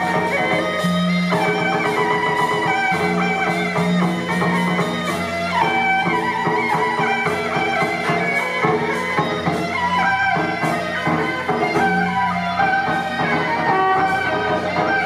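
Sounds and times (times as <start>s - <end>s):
melodic instruments playing a tune: 0.0s - 15.0s.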